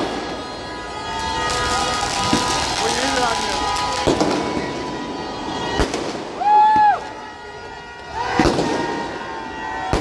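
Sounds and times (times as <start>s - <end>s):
crowd shouting: 0.0s - 10.0s
fireworks bangs: 0.0s - 10.0s.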